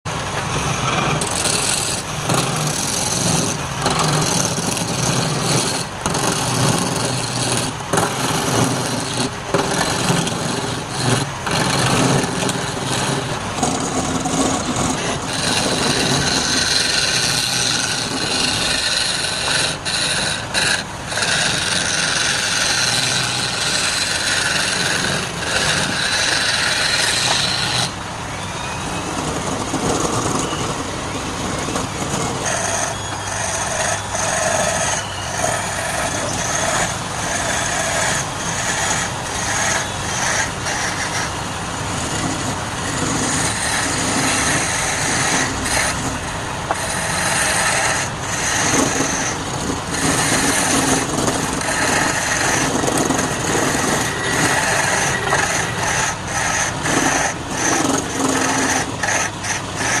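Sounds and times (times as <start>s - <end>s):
turning tool scraping wood: 0.0s - 28.0s, 28.8s - 60.0s
wood lathe humming: 0.0s - 28.2s, 28.8s - 60.0s.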